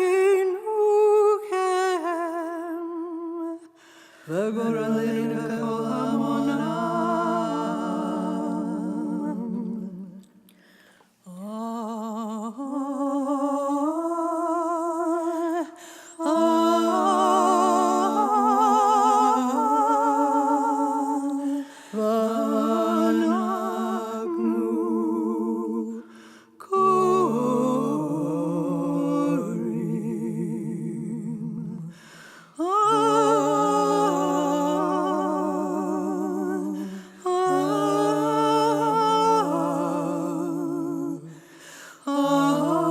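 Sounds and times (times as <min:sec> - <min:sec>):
solo voice singing liturgical melody: 0:00.0 - 0:10.5, 0:11.2 - 0:42.9.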